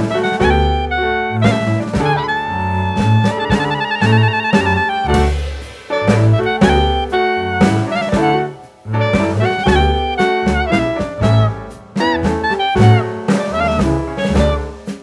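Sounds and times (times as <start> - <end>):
jazz music with saxophone lead: 0.0 - 15.0.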